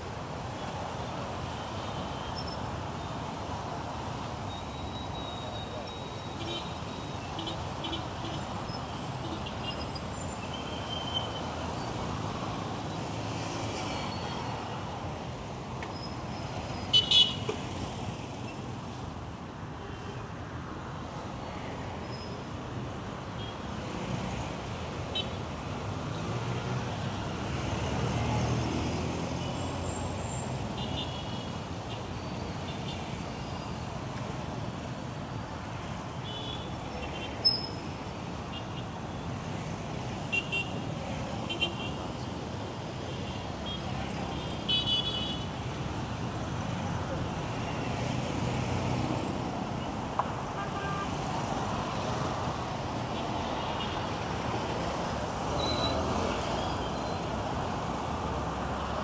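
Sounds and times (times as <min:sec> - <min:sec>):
street traffic rumble: 0:00.0 - 0:59.0.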